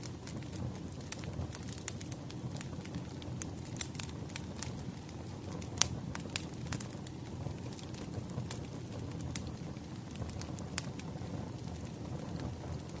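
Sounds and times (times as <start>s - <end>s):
low rumble of burning logs: 0.0s - 13.0s
wood fire popping and snapping: 0.0s - 13.0s.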